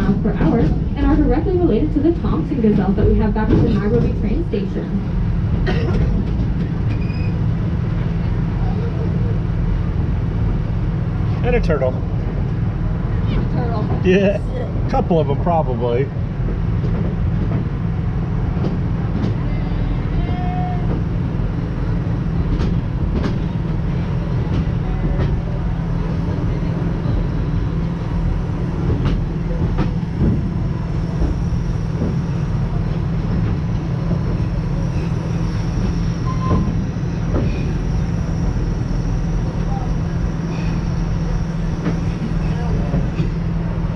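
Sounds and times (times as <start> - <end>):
passenger train rumbling: 0.0 - 43.9.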